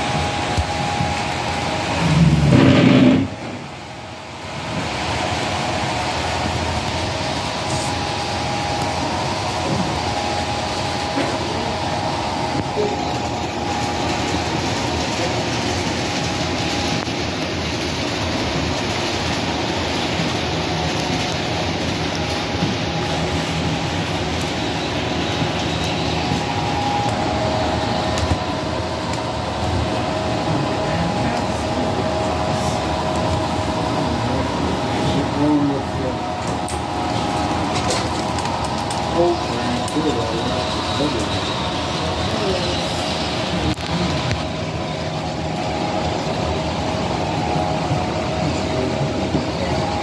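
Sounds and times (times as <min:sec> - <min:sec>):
model train rolling on track: 0:00.0 - 0:50.0
steady room hum: 0:00.0 - 0:50.0.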